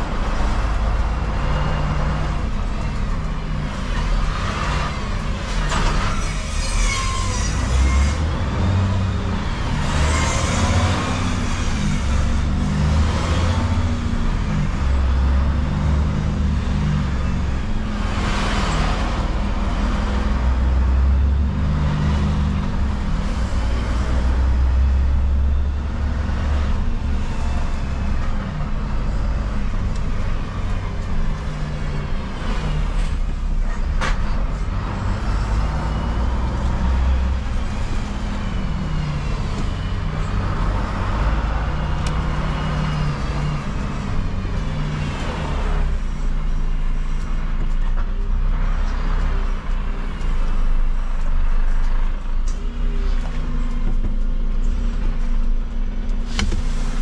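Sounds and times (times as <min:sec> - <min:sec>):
road noise: 0:00.0 - 0:57.0
truck diesel engine rumbling: 0:00.0 - 0:57.0.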